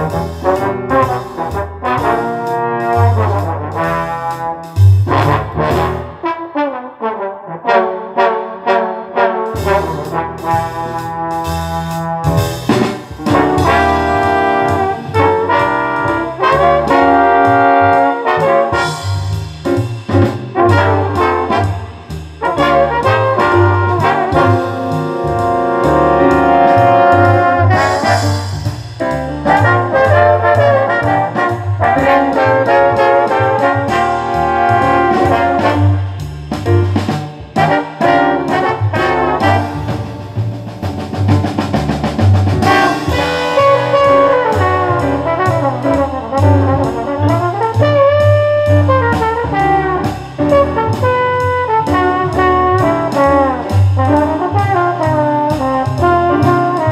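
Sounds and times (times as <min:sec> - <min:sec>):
brass jazz over loudspeakers: 0:00.0 - 0:56.9.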